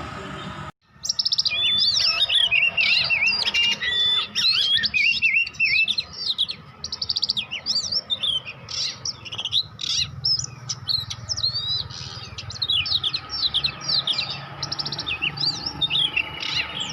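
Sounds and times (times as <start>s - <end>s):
bird singing varied chirps: 0.3s - 16.9s.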